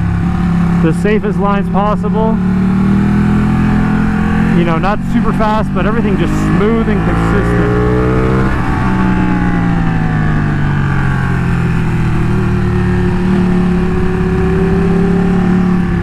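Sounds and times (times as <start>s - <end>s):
motorcycle engine riding: 0.0s - 16.0s.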